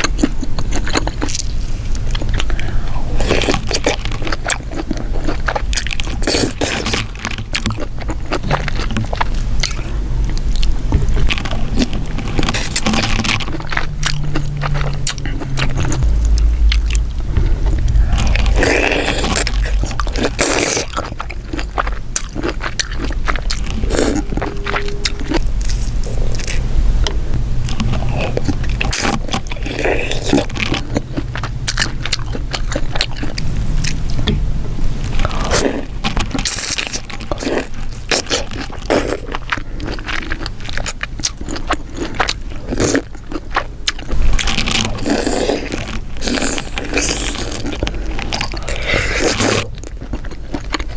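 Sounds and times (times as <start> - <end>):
chewing shellfish: 0.0 - 50.9.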